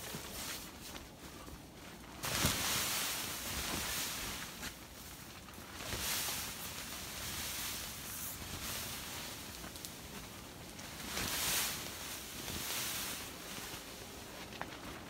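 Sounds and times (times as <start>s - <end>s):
tent fabric rustling: 0.0s - 15.0s
wind gusting against a tent: 0.0s - 15.0s.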